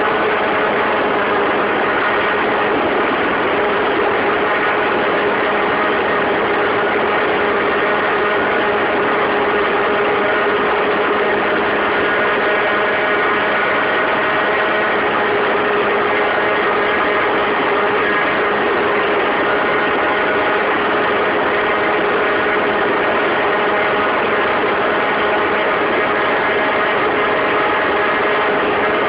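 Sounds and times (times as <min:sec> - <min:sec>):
moped engine at high revs: 0:00.0 - 0:29.0
wind noise: 0:00.0 - 0:29.0.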